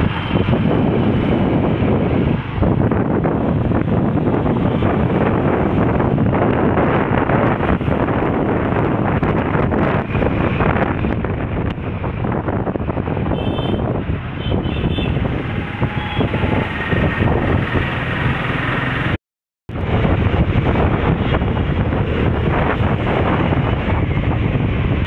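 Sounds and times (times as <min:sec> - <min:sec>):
road and traffic noise: 0:00.0 - 0:25.0
wind buffeting microphone: 0:00.0 - 0:25.0.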